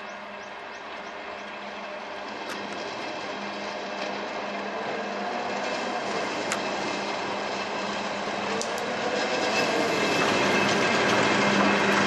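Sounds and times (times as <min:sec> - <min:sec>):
locomotive hum: 0:00.0 - 0:12.0
train wheels rumbling on rails: 0:00.0 - 0:12.0.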